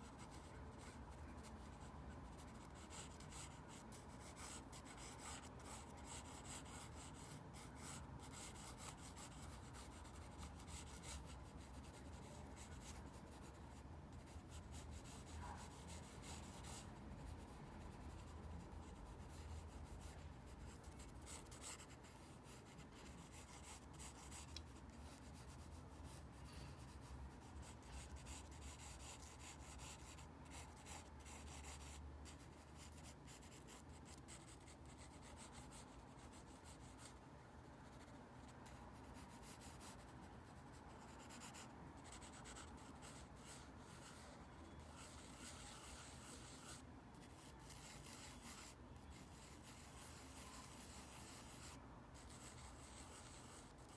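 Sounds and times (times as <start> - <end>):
pencil sketching on paper: 0.0 - 37.2, 37.9 - 53.9.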